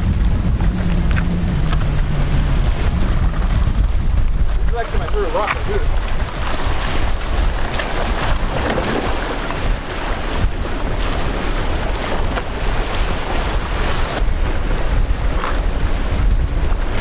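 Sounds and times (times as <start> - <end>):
waves against jetty: 0.0 - 17.0
wind buffeting microphone: 0.0 - 17.0.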